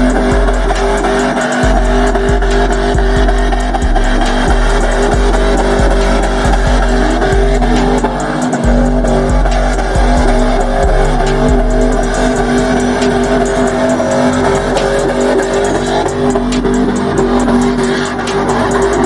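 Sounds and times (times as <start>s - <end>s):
car engine at high revs: 0.0s - 19.0s
music: 0.0s - 19.0s
tyre squeal: 0.0s - 19.0s.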